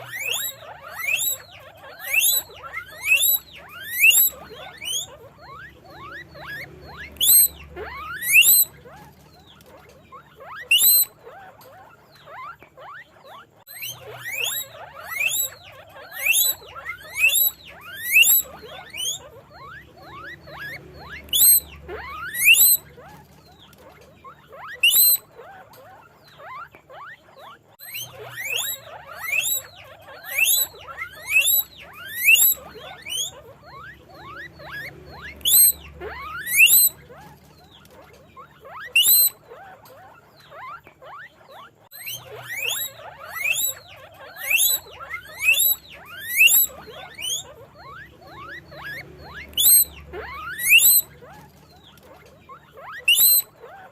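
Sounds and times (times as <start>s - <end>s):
guinea pig squeaking: 0.0s - 53.9s.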